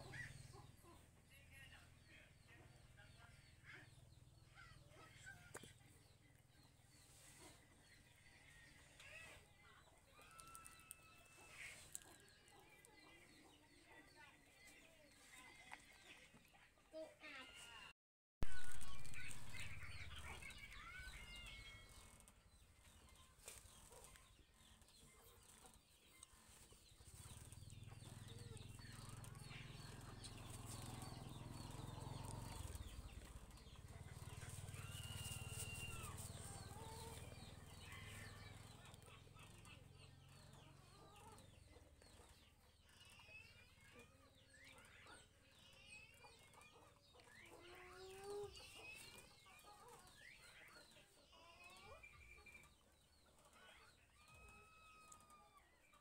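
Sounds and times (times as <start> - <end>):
faint chickens clucking: 0.0 - 17.9, 18.5 - 56.0.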